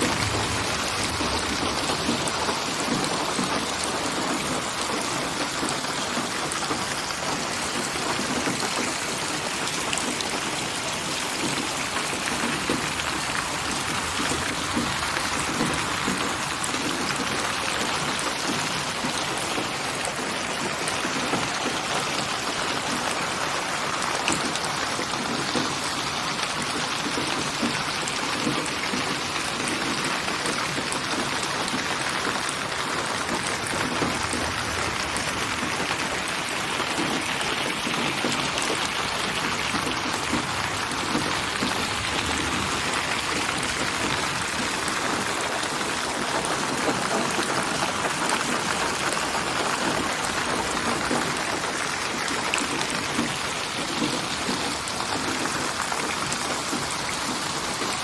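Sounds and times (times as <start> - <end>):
rain pattering on surfaces: 0.0 - 58.0.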